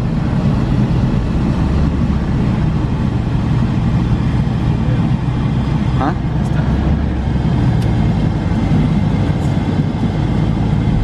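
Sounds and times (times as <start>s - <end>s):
car engine and exhaust drone: 0.0s - 11.0s.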